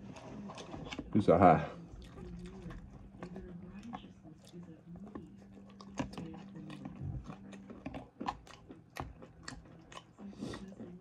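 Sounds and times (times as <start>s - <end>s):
faint low hum: 0.0s - 11.0s
person chewing and crunching food: 0.0s - 11.0s.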